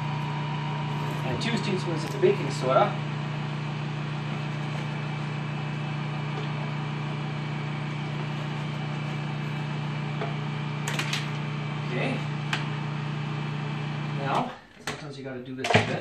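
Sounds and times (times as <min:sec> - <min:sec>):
food processor motor humming: 0:00.0 - 0:14.5.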